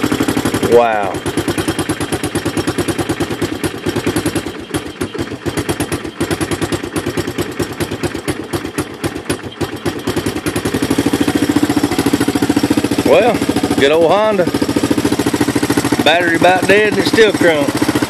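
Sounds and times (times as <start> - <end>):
single-cylinder engine running: 0.0 - 18.0.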